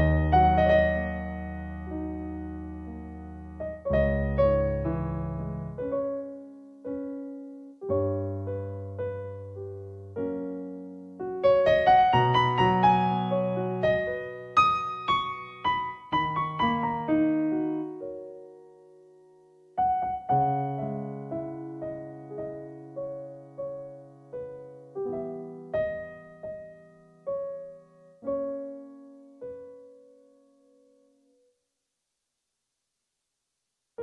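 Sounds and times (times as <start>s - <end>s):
slow gentle solo piano: 0.0s - 31.5s.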